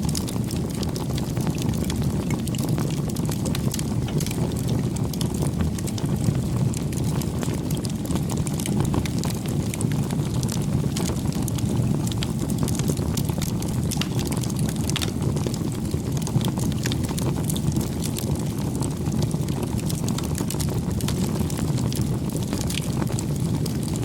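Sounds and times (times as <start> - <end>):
burning wood crackling and popping: 0.0 - 24.0
low rumble of flame: 0.0 - 24.0.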